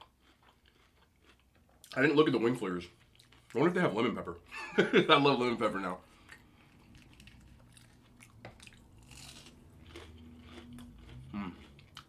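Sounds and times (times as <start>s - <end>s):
chewing crispy food: 0.0s - 4.3s, 6.1s - 12.0s.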